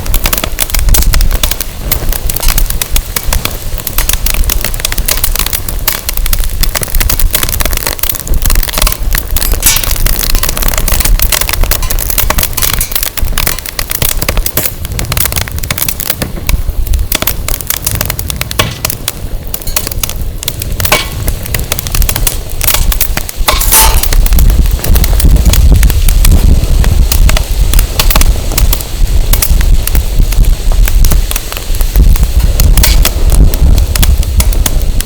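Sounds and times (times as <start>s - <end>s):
firewood crackling and popping: 0.0s - 35.0s
wind rumble on microphone: 0.0s - 35.0s.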